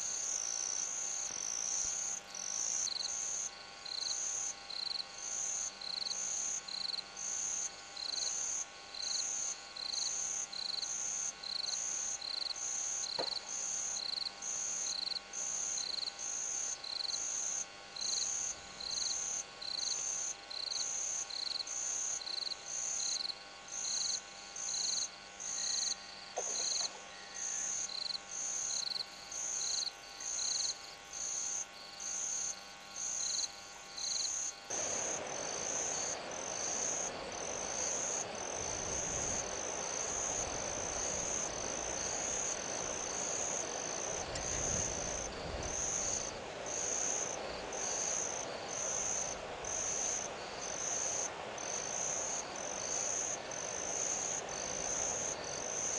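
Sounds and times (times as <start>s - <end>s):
night insects chirping: 0.0s - 55.9s
steady hiss: 0.0s - 55.9s.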